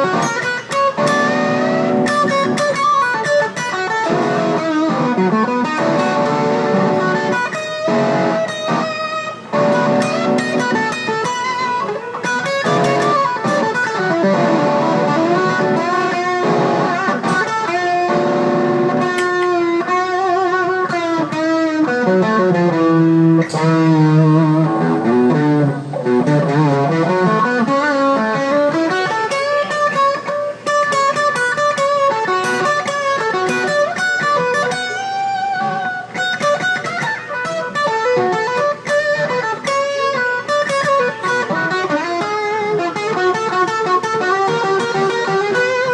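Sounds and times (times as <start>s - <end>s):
electric guitar lead with bends: 0.0s - 45.9s.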